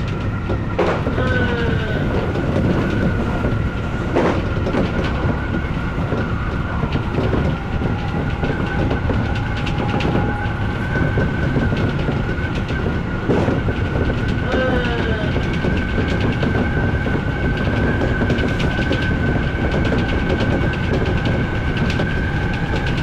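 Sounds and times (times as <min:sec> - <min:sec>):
train high whine: 0:00.0 - 0:23.0
train wheels rumbling on rail: 0:00.0 - 0:23.0
wheels clicking over rail joints: 0:00.0 - 0:23.0.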